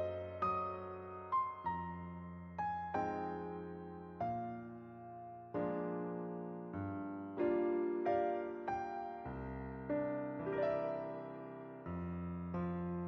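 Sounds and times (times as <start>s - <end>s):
piano playing slow gentle chords: 0.0s - 13.0s.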